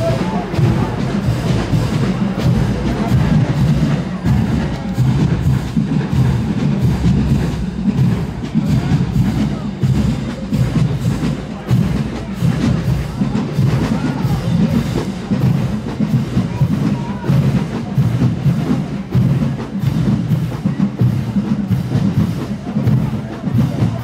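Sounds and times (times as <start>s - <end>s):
drumline playing marching cadence: 0.0s - 24.0s.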